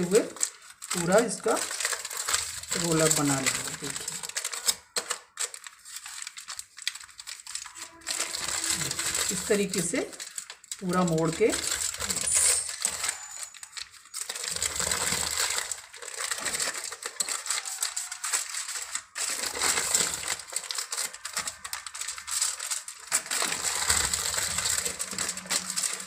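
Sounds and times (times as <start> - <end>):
aluminium foil crinkling: 0.0 - 26.0.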